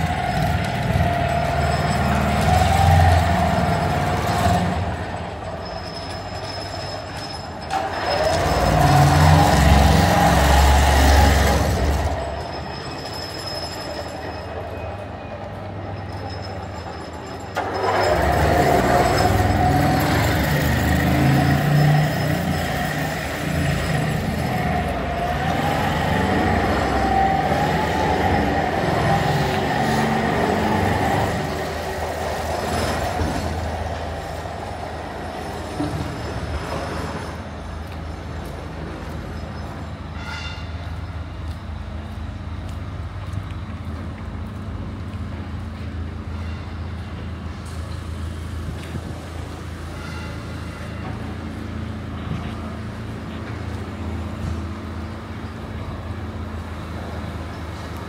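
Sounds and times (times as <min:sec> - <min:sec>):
train wheels squealing: 0:00.0 - 0:41.4, 0:45.8 - 0:48.4, 0:49.1 - 0:53.2
train rumble: 0:00.0 - 0:58.0.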